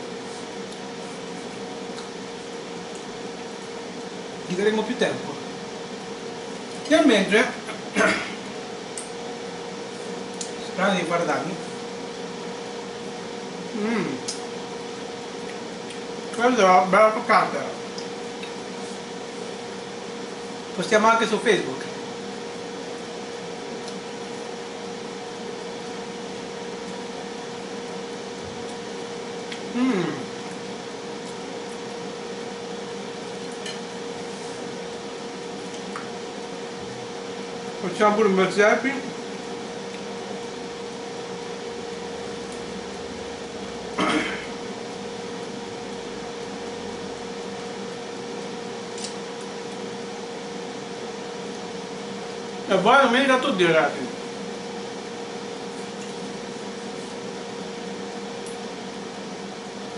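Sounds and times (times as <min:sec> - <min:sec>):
constant hum: 0:00.0 - 0:58.7.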